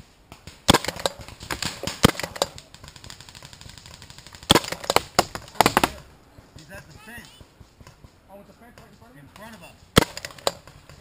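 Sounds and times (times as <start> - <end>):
paintball markers firing: 0.3 - 11.0.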